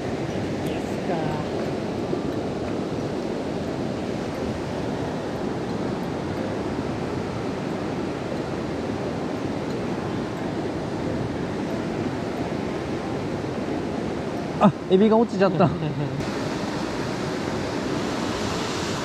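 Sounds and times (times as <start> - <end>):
stream water rushing over rocks: 0.0 - 19.0.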